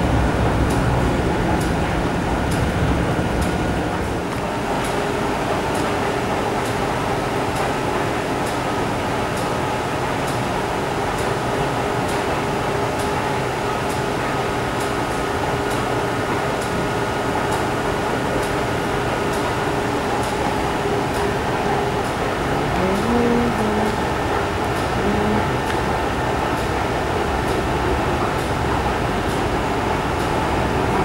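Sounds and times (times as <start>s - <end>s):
ventilation hum: 0.0s - 31.0s.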